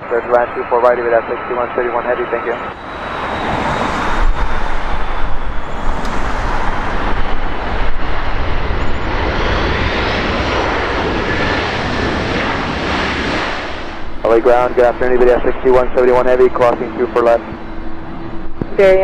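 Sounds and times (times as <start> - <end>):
faint high whine: 0.0 - 12.6, 13.6 - 19.0
jet engines roaring: 0.0 - 19.0.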